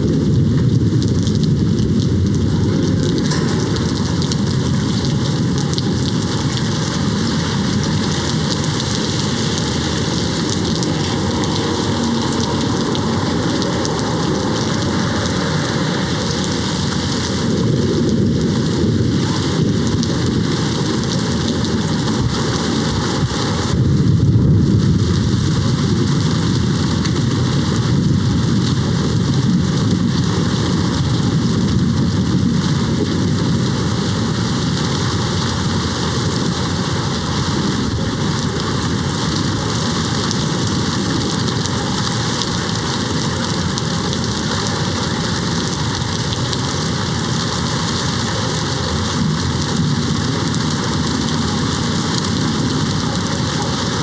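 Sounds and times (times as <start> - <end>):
heavy rain: 0.0 - 54.0
rolling thunder: 0.0 - 54.0.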